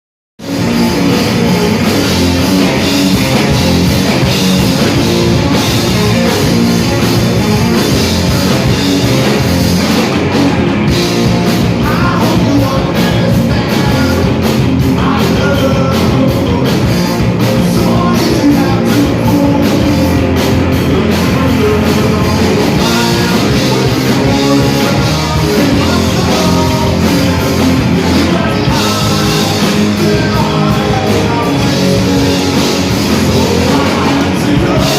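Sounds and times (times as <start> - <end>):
rock band playing loud: 0.4 - 34.9.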